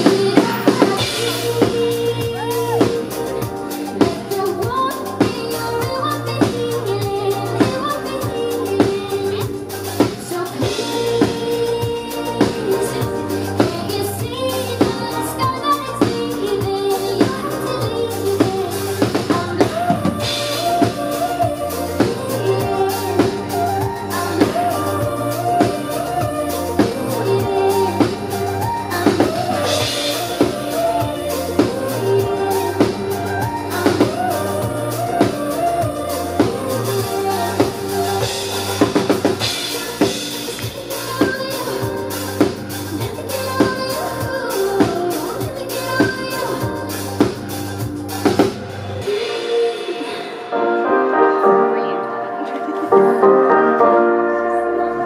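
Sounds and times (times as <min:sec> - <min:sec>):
drum kit beat: 0:00.0 - 0:51.6
live pop band: 0:00.0 - 0:55.0
woman singing: 0:00.0 - 0:55.0.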